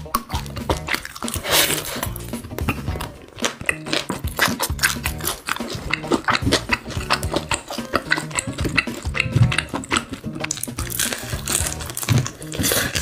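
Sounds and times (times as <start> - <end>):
background music: 0.0 - 13.0
person chewing food: 0.0 - 13.0
wet lip smacks: 0.0 - 13.0.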